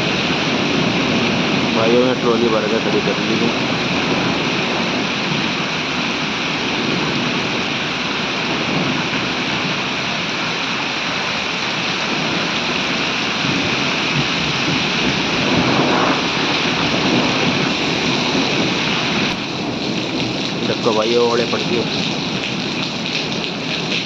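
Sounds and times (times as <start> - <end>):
heavy rain with hail: 0.0 - 24.0.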